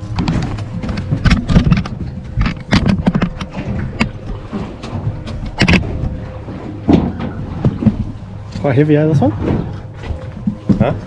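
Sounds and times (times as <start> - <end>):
knocks and clatters on boat: 0.0 - 11.0
steady low hum: 0.0 - 11.0.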